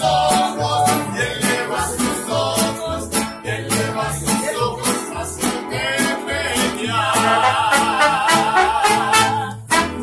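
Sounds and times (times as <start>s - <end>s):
plucked bass line: 0.0s - 10.0s
strummed guitars: 0.0s - 10.0s.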